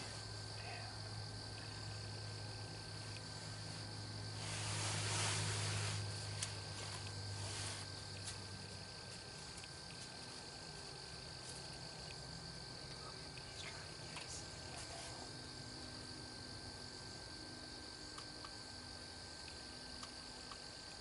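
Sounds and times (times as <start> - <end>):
insects chirping chorus: 0.0 - 21.0.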